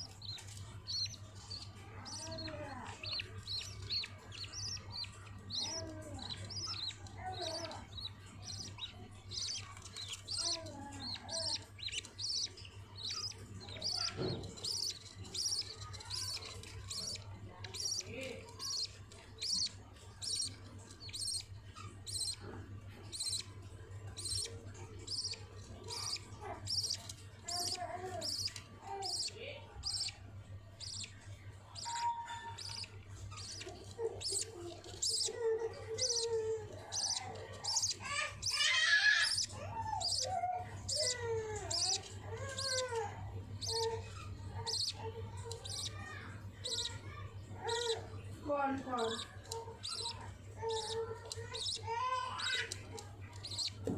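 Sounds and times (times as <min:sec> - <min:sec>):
budgerigars chirping: 0:00.0 - 0:53.9.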